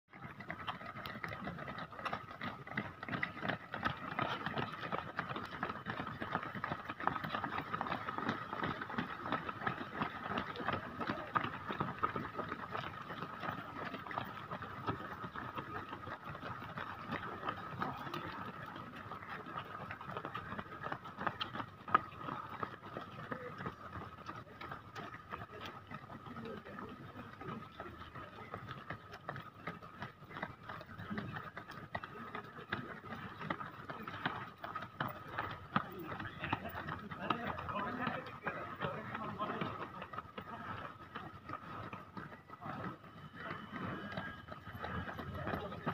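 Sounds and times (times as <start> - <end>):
runners' footsteps on road: 0.1 - 45.9.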